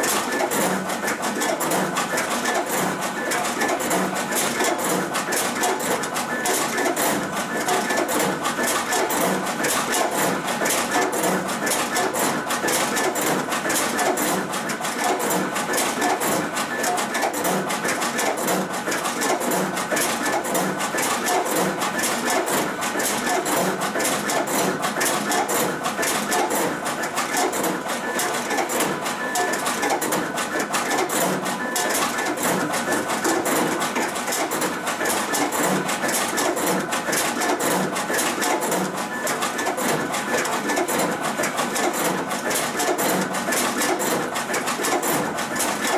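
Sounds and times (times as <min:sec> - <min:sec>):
machine mechanical clatter: 0:00.0 - 0:45.9.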